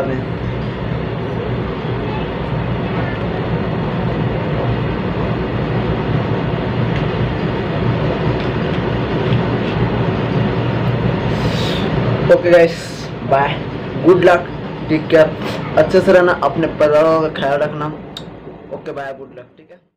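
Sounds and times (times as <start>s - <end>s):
loud rushing noise: 0.0s - 18.9s
low hum: 0.0s - 19.5s.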